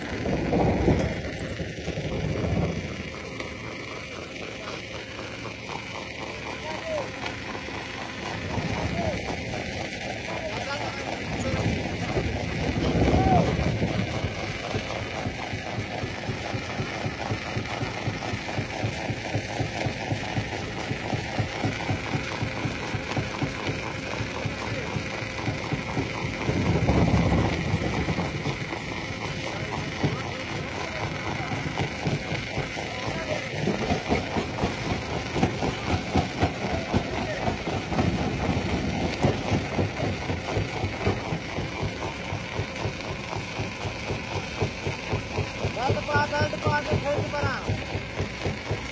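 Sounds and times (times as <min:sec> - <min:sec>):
stone crusher thumping: 0:00.2 - 0:48.9.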